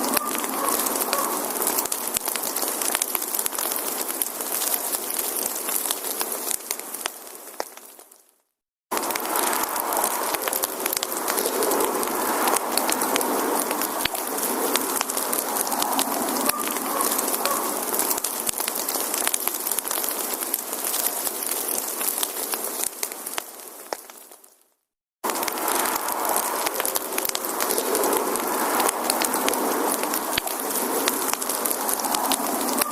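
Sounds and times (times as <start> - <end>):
campfire crackling and popping: 0.0 - 32.9.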